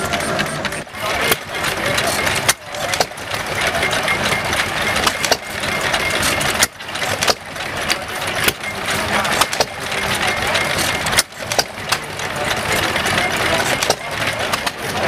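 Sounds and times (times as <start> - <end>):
stationary engine running: 0.0 - 15.0.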